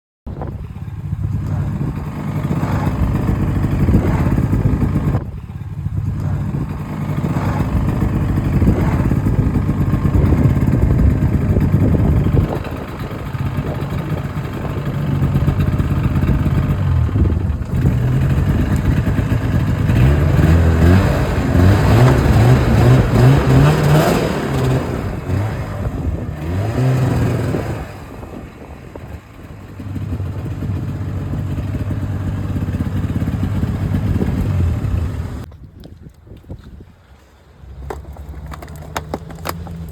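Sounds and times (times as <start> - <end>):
snowmobile engine revving: 0.6 - 35.5.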